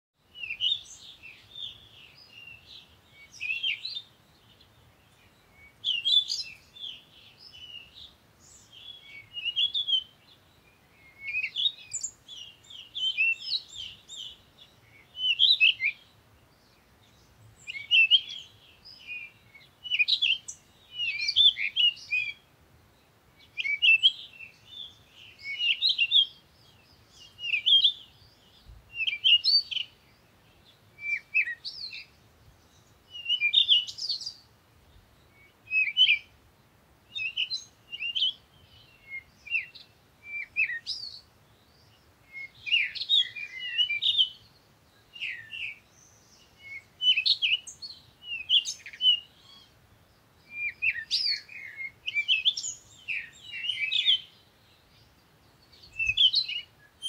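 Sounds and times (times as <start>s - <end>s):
small birds chirping: 0.2s - 57.0s.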